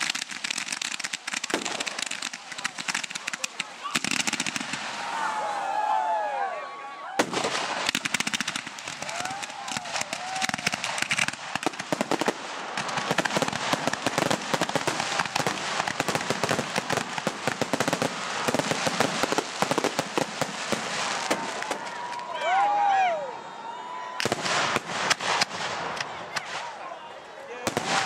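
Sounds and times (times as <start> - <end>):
fireworks crackling: 0.0 - 5.6, 7.2 - 22.4, 24.2 - 26.8, 27.5 - 28.0.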